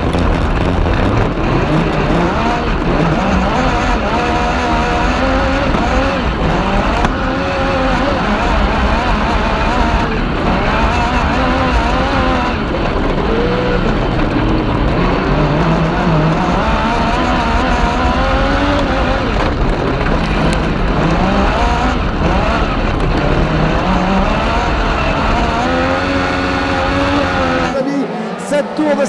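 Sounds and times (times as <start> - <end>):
dirt-track noise: 0.0 - 29.0
racing engine at full throttle: 0.0 - 29.0.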